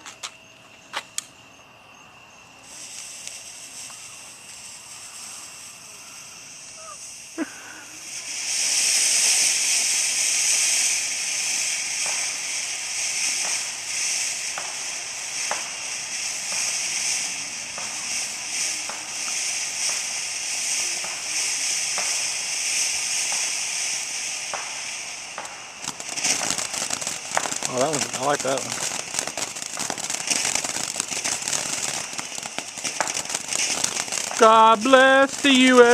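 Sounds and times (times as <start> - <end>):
sharp firework crackles: 0.0 - 1.4, 2.1 - 35.9
firework fountain hissing: 0.0 - 35.9.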